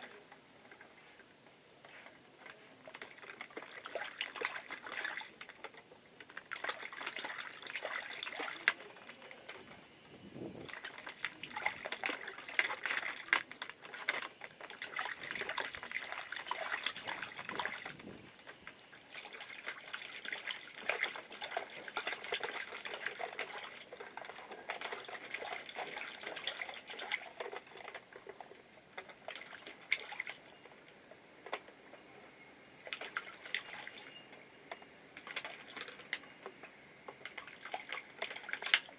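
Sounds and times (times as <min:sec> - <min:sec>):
water splashing and trickling: 0:00.0 - 0:00.8, 0:02.4 - 0:31.6, 0:32.8 - 0:34.4, 0:35.2 - 0:36.5, 0:37.1 - 0:38.9.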